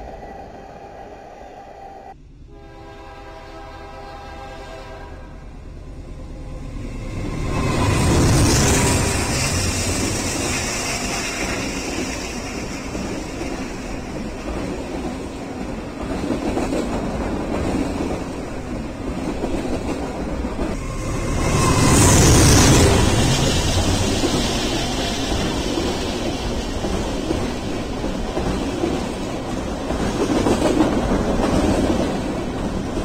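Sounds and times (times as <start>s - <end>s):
freight train rumbling: 0.0s - 33.0s.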